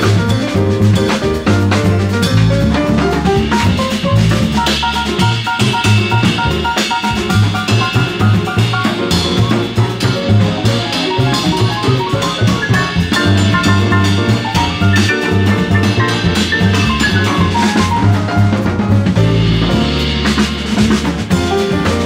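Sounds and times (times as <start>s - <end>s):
bass line: 0.0s - 22.0s
drum kit with cymbals: 0.0s - 22.0s
piano notes: 0.0s - 22.0s.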